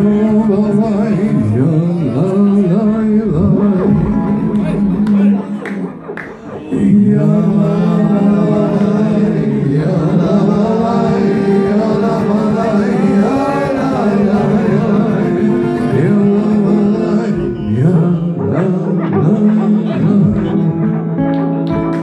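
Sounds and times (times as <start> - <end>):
men singing: 0.0 - 21.2
held drone: 0.1 - 21.4.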